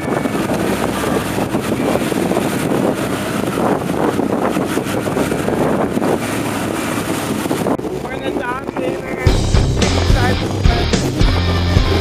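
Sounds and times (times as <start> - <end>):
outboard motors running: 0.0 - 12.0
wind buffeting microphone: 0.0 - 12.0.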